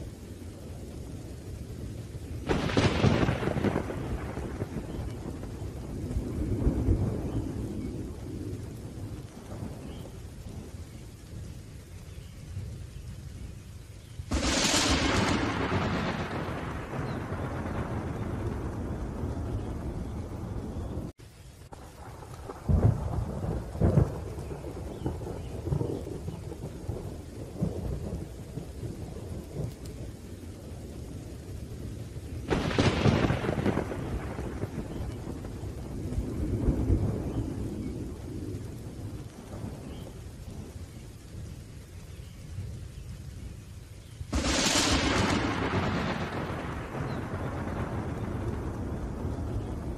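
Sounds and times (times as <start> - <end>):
steady rain: 0.0 - 49.9
thunder cracks and rumbles: 2.4 - 10.7, 14.3 - 21.1, 21.8 - 41.6, 44.2 - 49.9.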